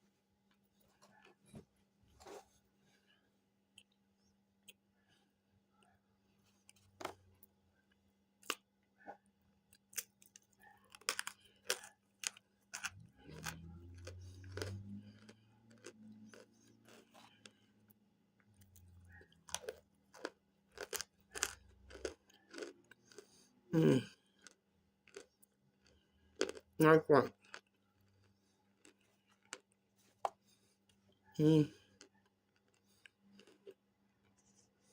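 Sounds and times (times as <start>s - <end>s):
crunchy chewing: 3.7s - 34.9s.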